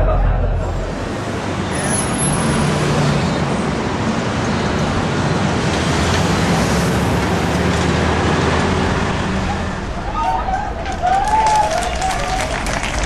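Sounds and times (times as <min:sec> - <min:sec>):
passing vehicles rushing: 0:00.0 - 0:13.0.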